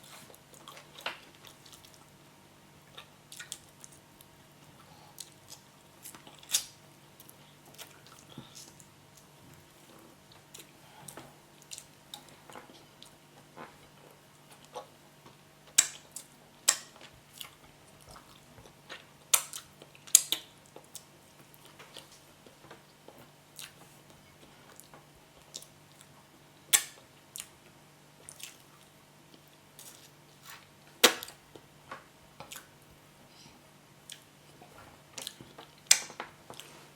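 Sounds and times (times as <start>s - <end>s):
faint steady hum: 0.0s - 36.9s
chewing and wet smacks: 0.2s - 2.1s, 2.9s - 4.0s, 4.6s - 23.9s, 24.7s - 26.1s, 26.7s - 27.6s, 28.2s - 30.2s, 32.4s - 32.8s, 34.0s - 36.7s.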